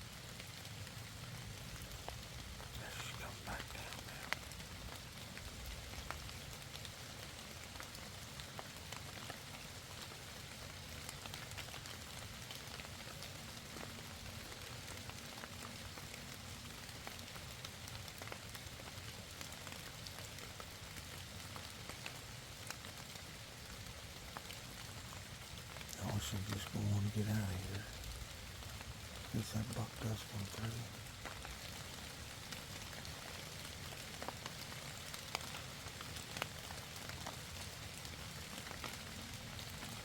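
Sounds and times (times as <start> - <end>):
light rain pattering: 0.0 - 40.0.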